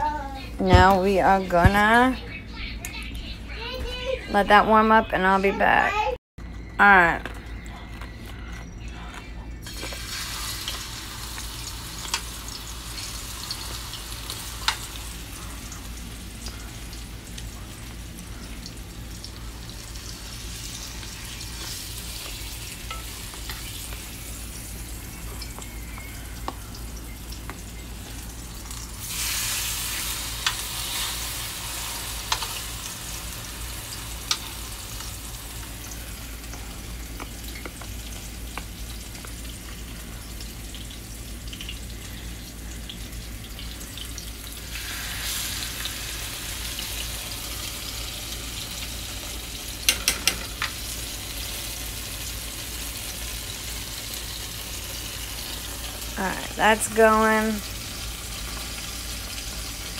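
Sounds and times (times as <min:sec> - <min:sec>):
meat sizzling in a pan: 0:09.6 - 0:59.9.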